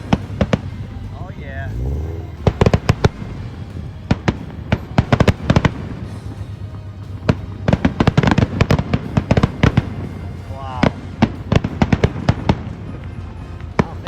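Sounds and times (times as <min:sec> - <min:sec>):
fireworks bangs and crackles: 0:02.6 - 0:14.0.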